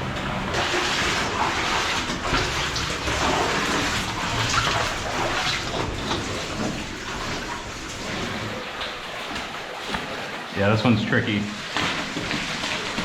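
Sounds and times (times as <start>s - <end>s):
waterfall pouring and splashing: 0.0s - 13.0s.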